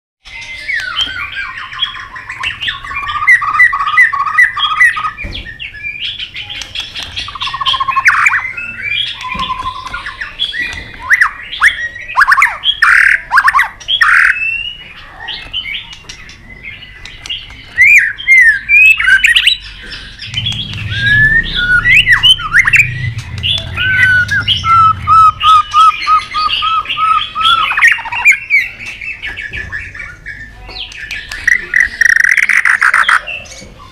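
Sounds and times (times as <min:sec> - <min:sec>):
bird singing whistled phrases: 0:00.3 - 0:33.6
sharp clicking bird calls: 0:00.3 - 0:33.9.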